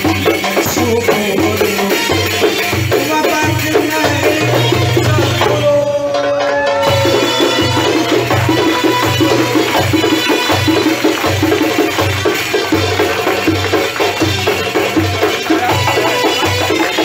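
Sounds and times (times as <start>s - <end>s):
frame drums playing dance music: 0.0s - 17.0s.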